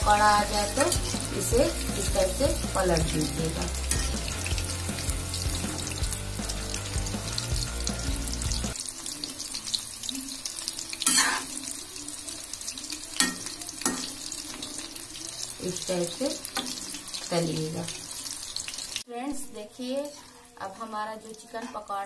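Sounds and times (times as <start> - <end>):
hot oil sizzling and crackling: 0.0 - 22.0.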